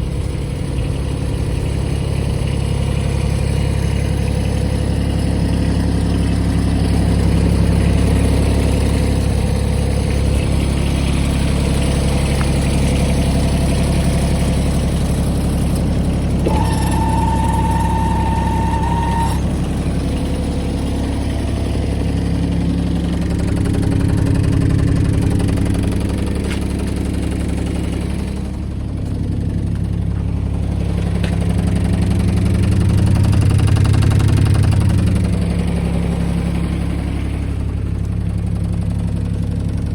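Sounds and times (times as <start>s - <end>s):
lawnmower engine running: 0.0s - 39.9s.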